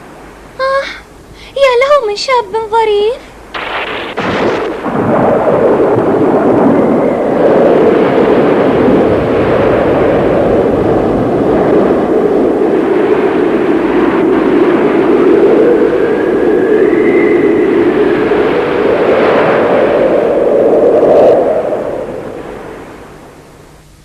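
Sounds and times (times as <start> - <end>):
heaving sea: 3.2 - 23.4
wind rushing: 3.5 - 23.3.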